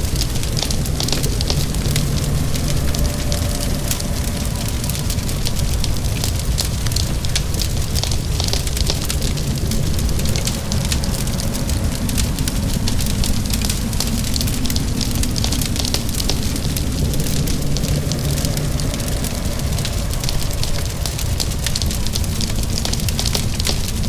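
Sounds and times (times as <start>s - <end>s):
rain: 0.0s - 24.0s
wood fire crackling: 0.0s - 24.0s.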